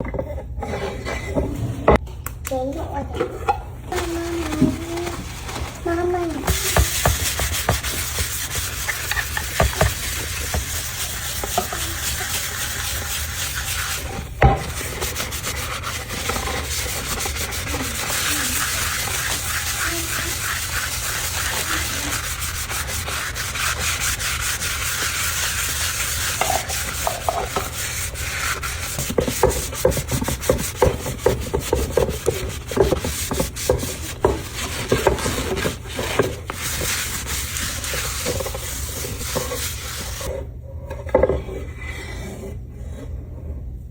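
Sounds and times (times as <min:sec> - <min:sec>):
scrubbing wooden cutting board: 0:03.9 - 0:40.4.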